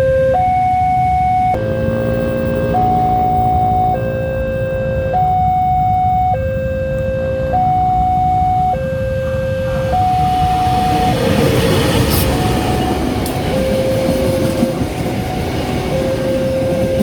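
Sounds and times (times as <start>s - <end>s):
level crossing two-tone alarm: 0.0s - 17.0s
train rushing: 1.5s - 17.0s.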